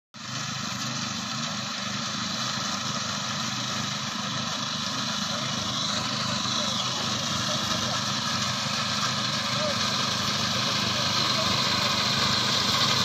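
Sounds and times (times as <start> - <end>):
harvester engine running: 0.2 - 13.0.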